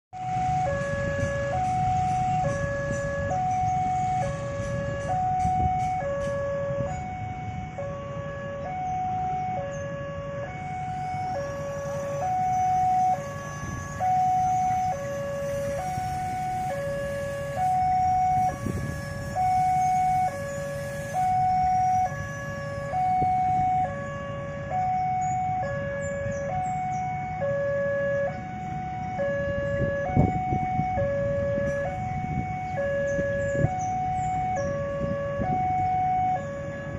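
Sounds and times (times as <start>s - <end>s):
two-tone crossing alarm: 0.1s - 36.9s
low traffic rumble: 0.2s - 36.9s.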